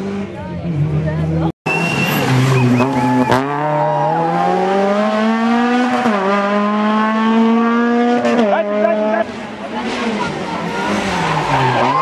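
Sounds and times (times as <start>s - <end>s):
rally car engine accelerating: 0.0s - 12.0s.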